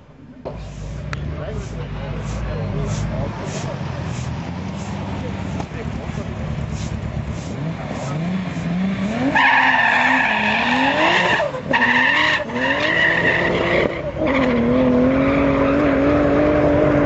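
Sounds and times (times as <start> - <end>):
race car engine accelerating: 0.5 - 17.0.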